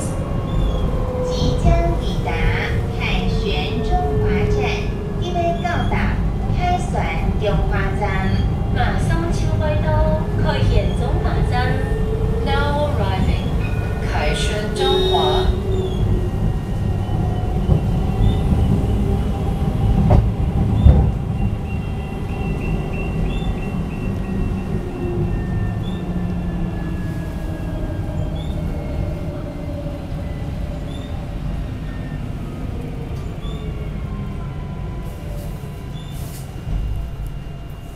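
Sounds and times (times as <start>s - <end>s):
tram rumble: 0.0s - 37.9s.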